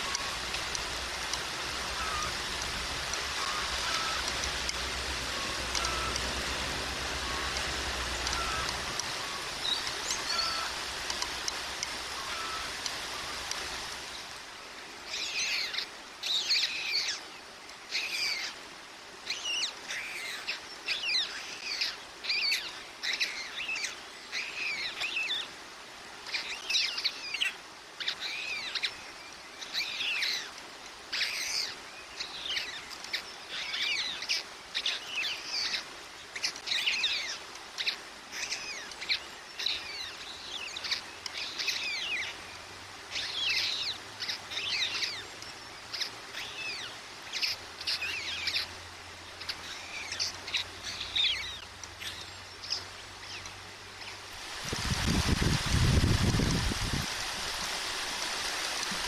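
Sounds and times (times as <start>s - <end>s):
rain hissing: 0.0s - 19.4s, 29.8s - 59.0s.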